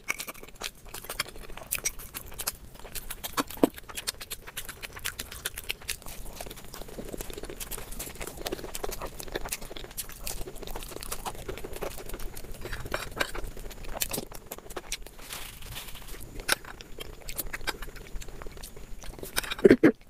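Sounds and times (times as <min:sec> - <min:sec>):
chewing with wet mouth clicks: 0:00.0 - 0:20.0.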